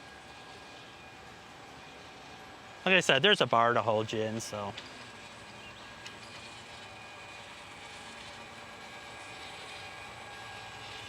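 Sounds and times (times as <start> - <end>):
chair lift hum and hiss: 0.0 - 11.0.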